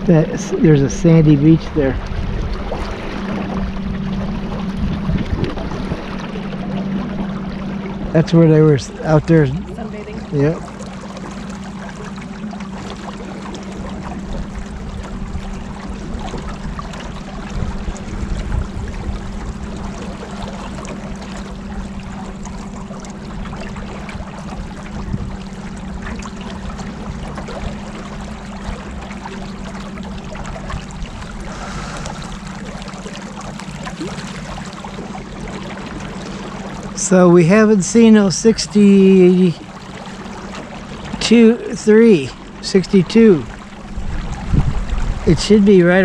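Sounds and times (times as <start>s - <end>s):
motorboat engine hum: 0.0s - 46.0s
water rushing along hull: 0.0s - 46.0s.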